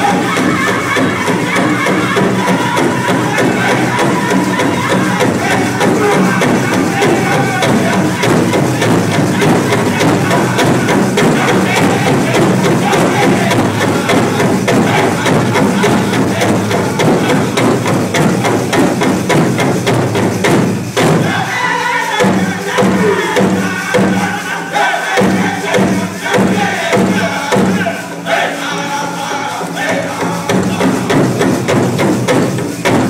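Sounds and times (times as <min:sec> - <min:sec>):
group singing in chorus: 0:00.0 - 0:33.0
steady drumbeat: 0:00.0 - 0:33.0.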